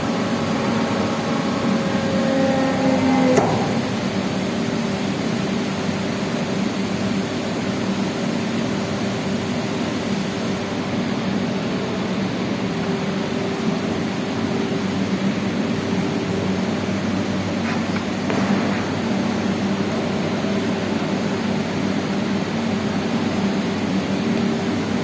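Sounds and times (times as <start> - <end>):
machinery hum: 0.0 - 25.0.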